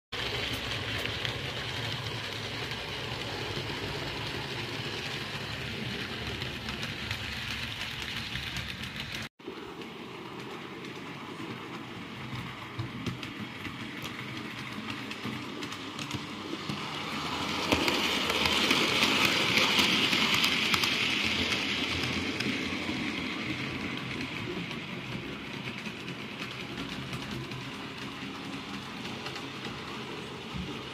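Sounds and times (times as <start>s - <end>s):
model train whirring on track: 0.2s - 30.9s.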